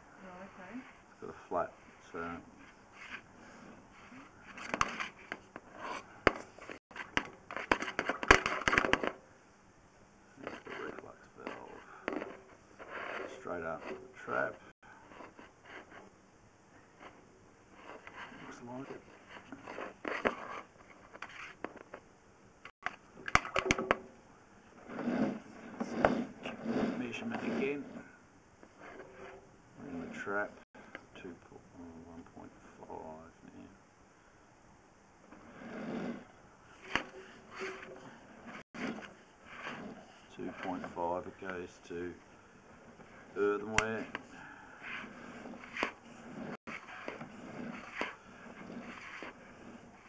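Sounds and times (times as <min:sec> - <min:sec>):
faint scraping: 0:00.0 - 0:09.2, 0:10.4 - 0:16.1, 0:16.8 - 0:22.0, 0:24.6 - 0:34.3, 0:35.3 - 0:50.0.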